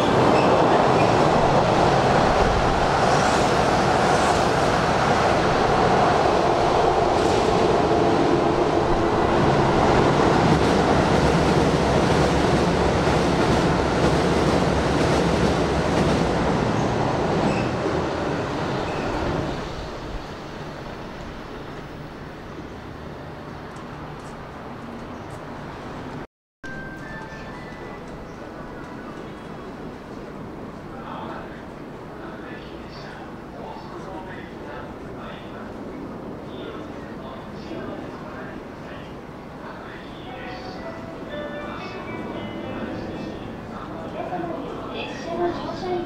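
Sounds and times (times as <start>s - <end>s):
electric train rumbling past: 0.0s - 46.0s.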